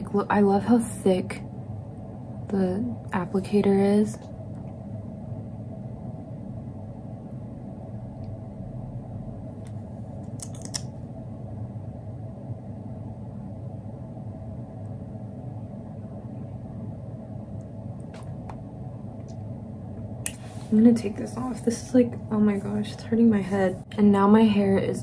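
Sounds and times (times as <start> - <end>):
low indoor hum: 0.0 - 25.0.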